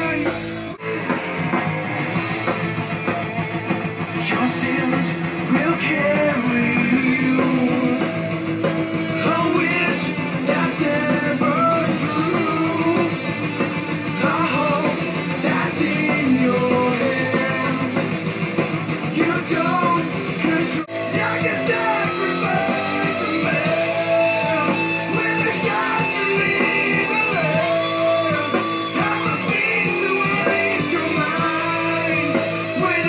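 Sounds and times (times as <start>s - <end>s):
person singing: 0.0s - 1.6s, 4.0s - 8.4s, 9.0s - 18.2s, 19.0s - 33.0s
electric guitar: 0.0s - 33.0s
metal rock music: 0.0s - 33.0s.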